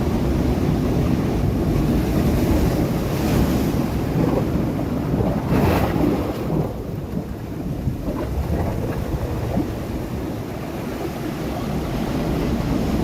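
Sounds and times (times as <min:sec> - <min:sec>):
surf rumble on rocks: 0:00.0 - 0:13.0.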